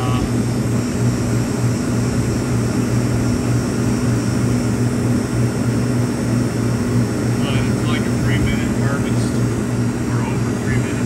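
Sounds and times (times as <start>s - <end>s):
ice machine humming: 0.0s - 11.0s.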